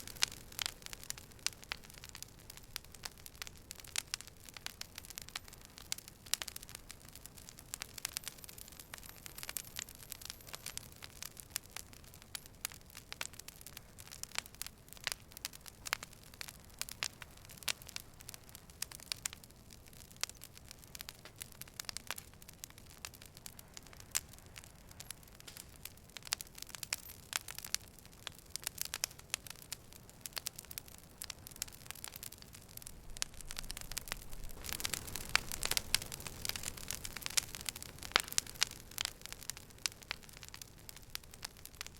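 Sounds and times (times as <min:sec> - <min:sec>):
campfire wood crackling and popping: 0:00.0 - 0:41.9.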